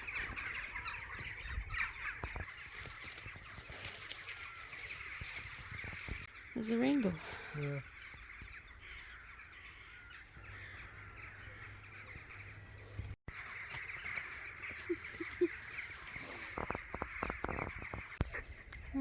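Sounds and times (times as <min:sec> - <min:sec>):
crows cawing and chattering: 0:00.0 - 0:19.0.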